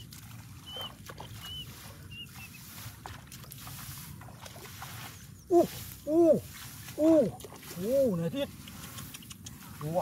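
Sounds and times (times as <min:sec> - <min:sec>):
shallow water splashing: 0:00.0 - 0:10.0
wet straw rustling: 0:00.0 - 0:10.0.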